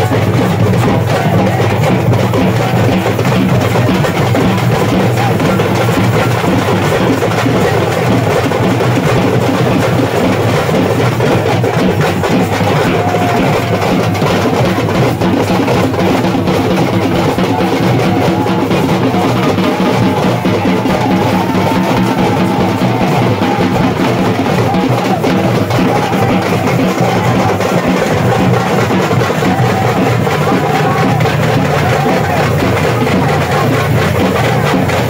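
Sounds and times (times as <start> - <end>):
loud music with fast drumming: 0.0 - 35.0.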